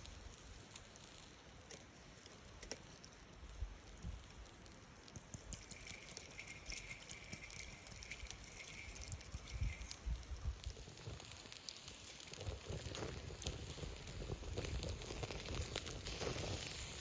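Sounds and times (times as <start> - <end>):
campfire crackling: 0.0 - 17.0
fat sizzling: 0.0 - 17.0.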